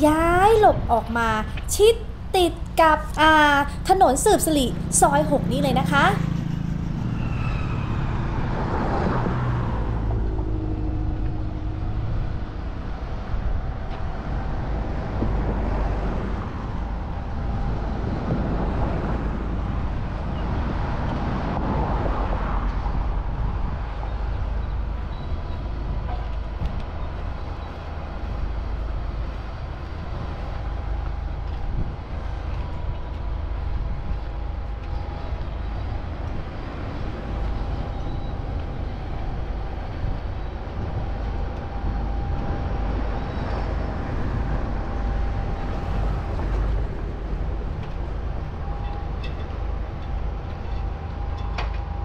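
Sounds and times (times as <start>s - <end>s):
low rumble of traffic: 0.0s - 52.0s.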